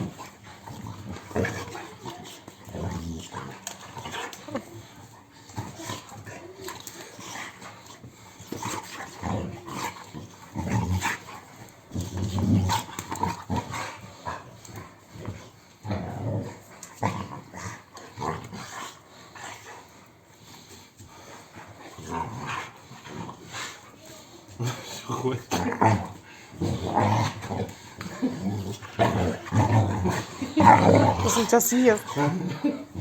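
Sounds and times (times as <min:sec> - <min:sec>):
dog growling: 0:00.0 - 0:20.0, 0:21.1 - 0:33.0.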